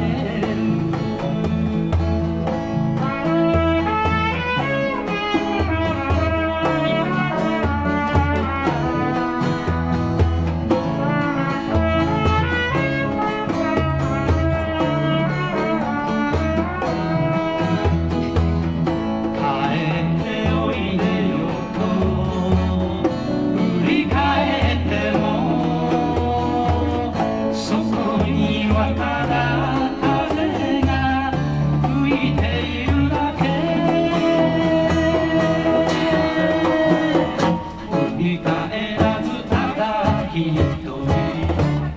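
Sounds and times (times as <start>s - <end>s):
strummed acoustic guitar: 0.0s - 41.9s.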